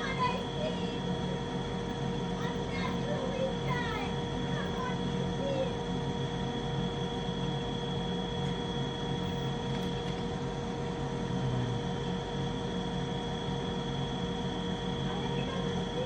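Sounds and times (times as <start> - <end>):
faint high whine: 0.0 - 16.0
furnace humming: 0.0 - 16.0.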